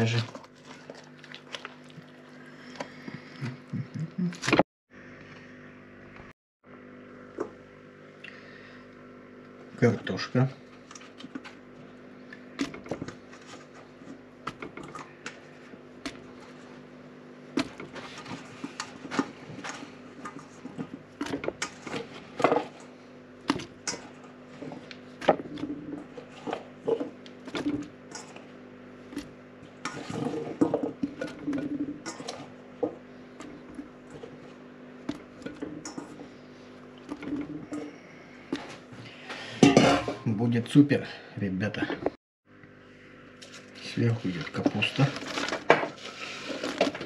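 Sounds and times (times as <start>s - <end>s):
background hum: 0.0s - 47.0s.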